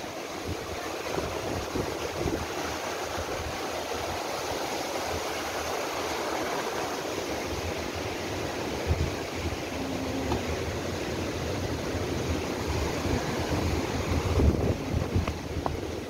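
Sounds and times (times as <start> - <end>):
low rumble of water: 0.0 - 16.0
river rushing over rocks: 0.0 - 16.0.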